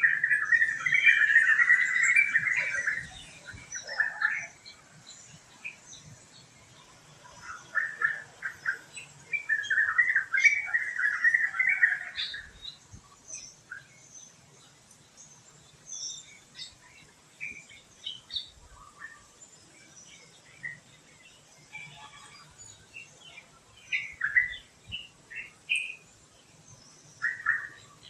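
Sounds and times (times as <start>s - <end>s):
bird chattering song: 0.0s - 28.0s
faint high bird chirps: 0.0s - 28.0s.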